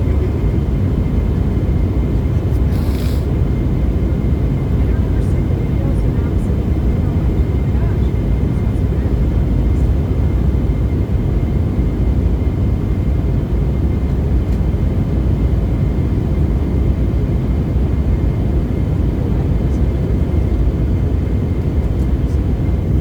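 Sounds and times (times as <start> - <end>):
aircraft cabin engine rumble: 0.0 - 23.0
faint steady whine: 0.0 - 23.0.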